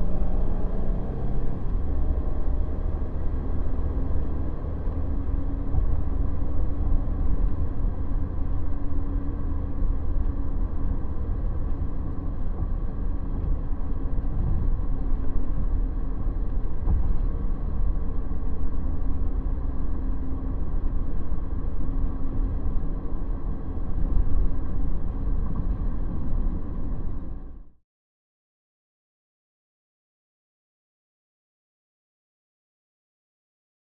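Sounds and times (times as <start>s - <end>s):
faint engine hum: 0.0s - 27.8s
road and tyre rumble: 0.0s - 27.8s.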